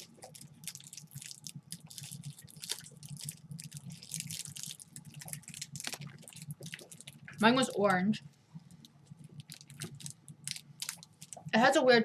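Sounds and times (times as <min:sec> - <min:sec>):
wet chewing of gummy candy: 0:00.0 - 0:08.0, 0:08.7 - 0:11.6.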